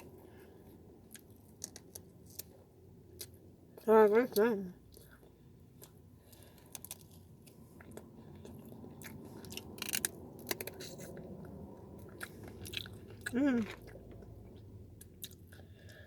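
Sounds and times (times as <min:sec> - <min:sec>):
person chewing and crunching: 0:00.0 - 0:03.4, 0:04.8 - 0:16.0.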